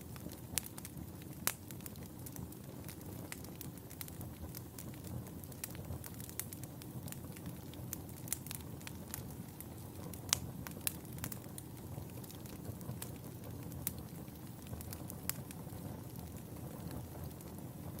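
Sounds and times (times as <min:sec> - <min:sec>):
fire popping and snapping: 0:00.0 - 0:18.0
low rumble of flames: 0:00.0 - 0:18.0.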